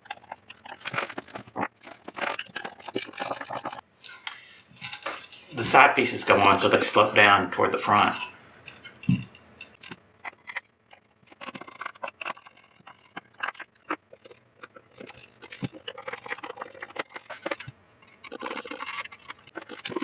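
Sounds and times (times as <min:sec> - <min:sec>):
wood pieces clicking and scraping: 0:00.0 - 0:05.6, 0:08.1 - 0:20.0.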